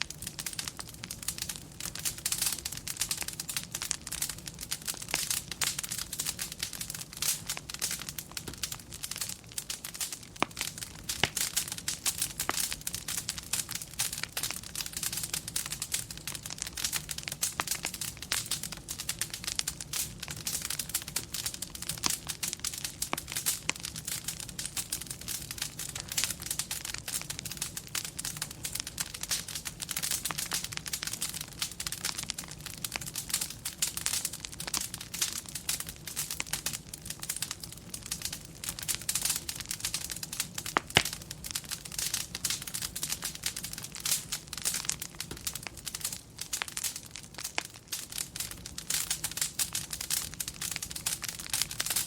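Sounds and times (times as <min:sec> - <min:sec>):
fireplace crackling and popping: 0:00.0 - 0:52.0.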